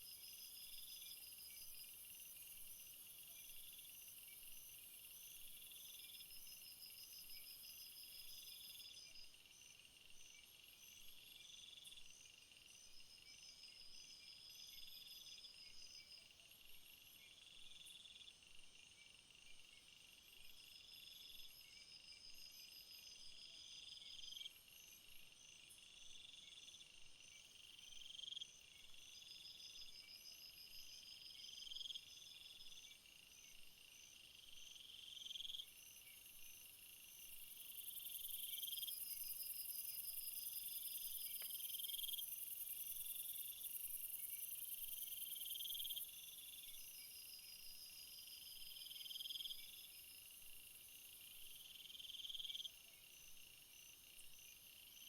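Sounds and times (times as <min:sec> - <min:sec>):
crickets and insects chirping: 0:00.0 - 0:55.0
insect trill: 0:00.0 - 0:55.0.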